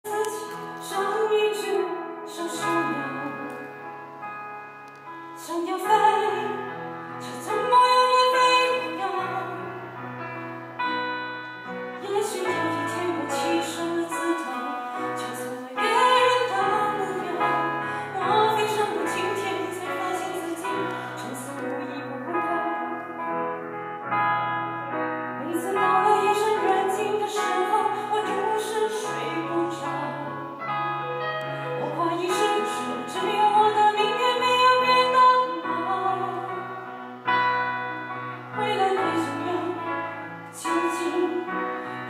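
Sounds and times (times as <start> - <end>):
woman singing into a microphone: 0.0 - 3.9, 5.3 - 10.1, 11.6 - 23.3, 25.4 - 30.7, 31.4 - 42.0
keyboard: 0.0 - 42.0.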